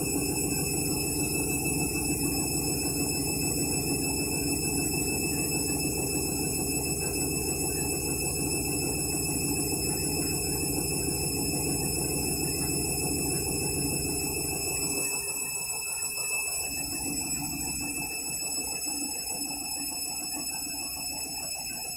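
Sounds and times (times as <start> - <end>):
motor hum: 0.0 - 21.9
washing machine drum spinning: 0.0 - 21.9.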